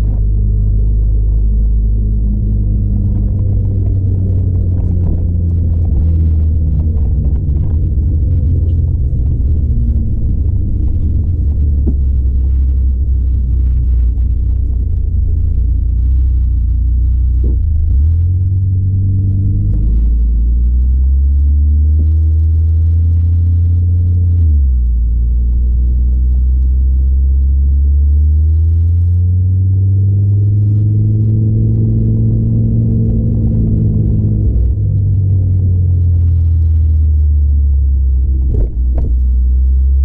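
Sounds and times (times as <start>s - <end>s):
car engine deep drone: 0.0s - 40.0s.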